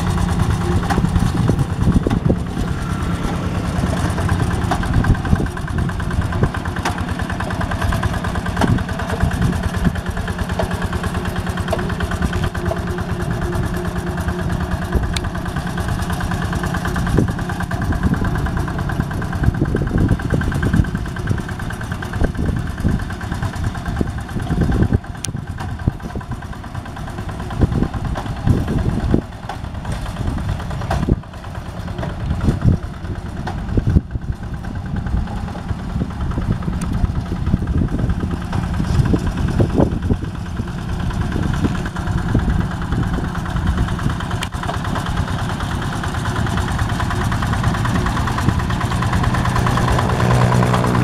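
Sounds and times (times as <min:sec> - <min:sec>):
diesel tractor engine running: 0:00.0 - 0:51.0.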